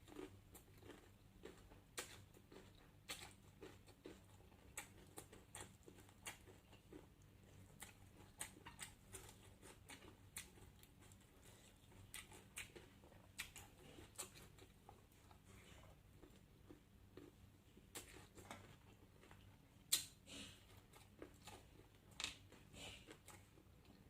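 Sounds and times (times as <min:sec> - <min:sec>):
chewing and mouth clicks: 0:00.0 - 0:24.0
low steady hum: 0:00.0 - 0:24.0.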